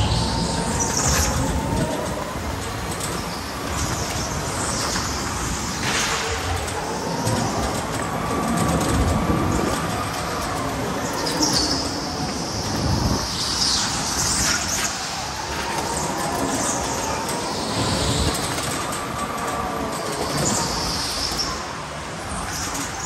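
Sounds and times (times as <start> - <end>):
electric go-kart motor whining: 0.0 - 23.0.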